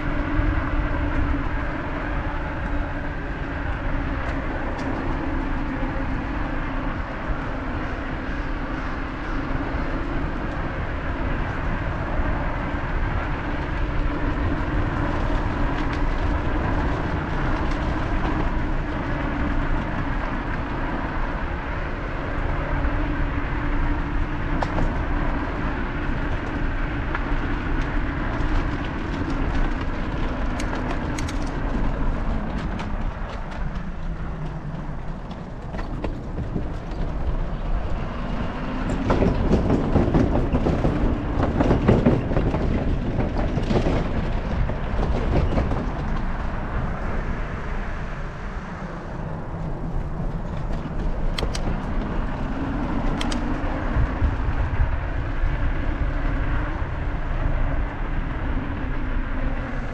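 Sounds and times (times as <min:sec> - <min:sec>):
bicycle tyres rolling on pavement: 0:00.0 - 0:59.9
wind rushing over microphone: 0:00.0 - 0:59.9.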